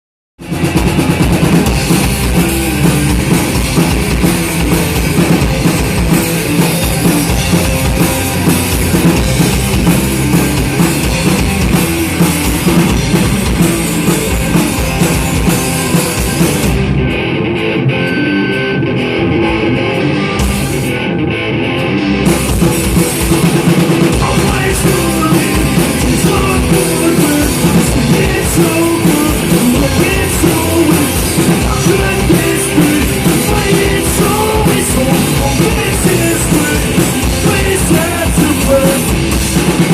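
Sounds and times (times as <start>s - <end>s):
live rock band playing: 0.4s - 39.9s.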